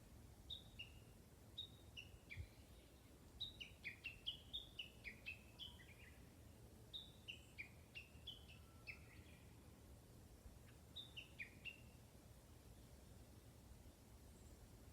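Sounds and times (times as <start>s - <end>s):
songbird chirping: 0.3s - 14.9s.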